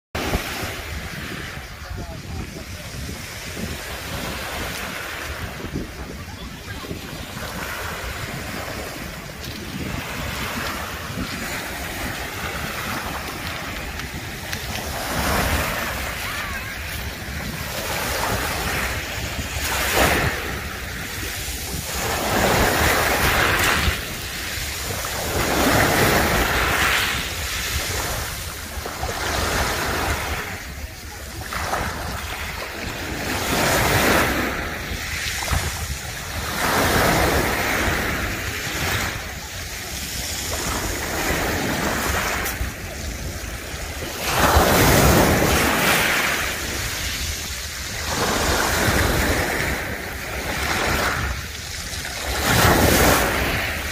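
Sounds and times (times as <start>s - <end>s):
waves on pebble beach: 0.2s - 53.9s
wind rumble on microphone: 0.2s - 53.9s.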